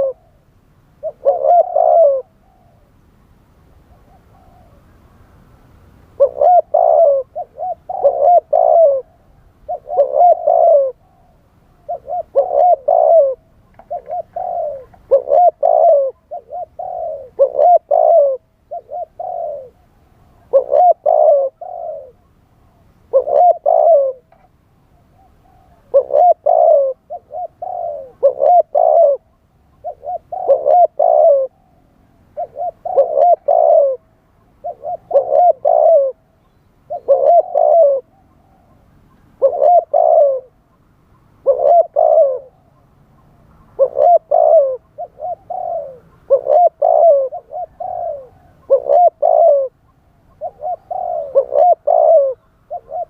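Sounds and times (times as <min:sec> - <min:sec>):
dove cooing: 0:00.0 - 0:03.0, 0:03.8 - 0:05.2, 0:06.2 - 0:53.0.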